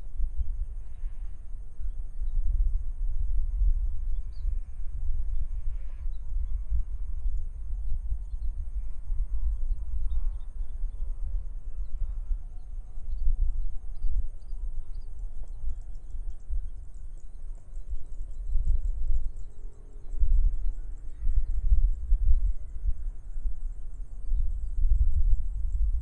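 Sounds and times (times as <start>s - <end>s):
high insect drone: 0.0s - 26.0s
wind buffeting microphone: 0.0s - 26.0s.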